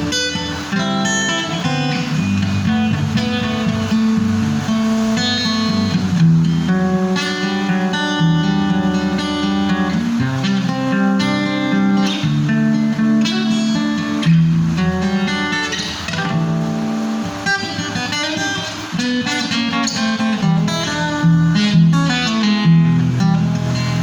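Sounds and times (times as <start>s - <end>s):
acoustic guitar picking and strumming: 0.0s - 24.0s.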